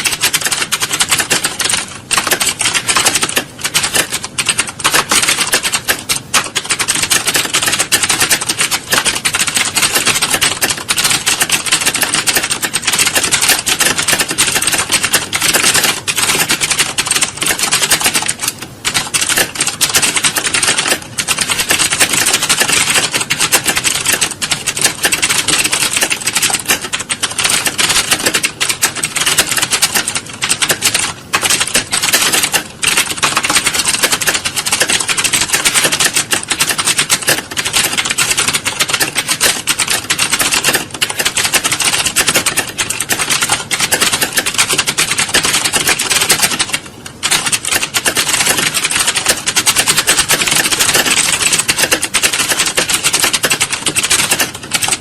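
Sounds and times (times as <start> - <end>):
computer keyboards typing rapidly: 0.0 - 55.0.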